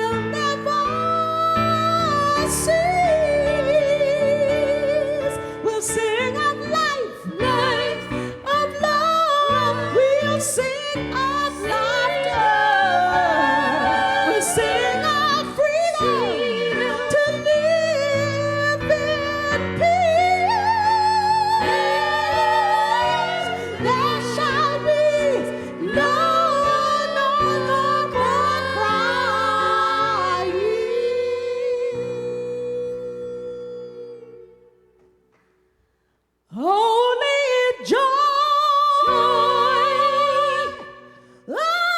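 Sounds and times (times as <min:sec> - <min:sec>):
woman singing gospel: 0:00.0 - 0:34.2.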